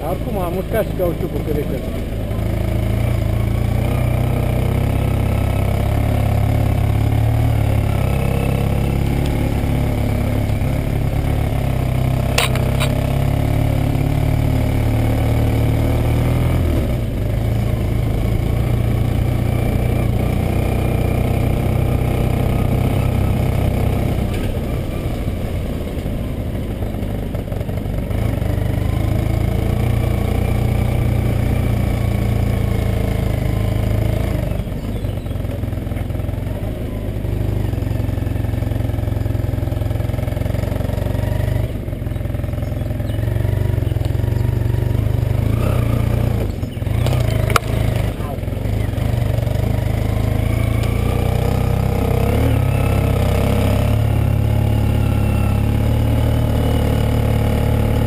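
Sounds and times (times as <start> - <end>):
motorcycle engine at low speed: 0.0 - 58.0.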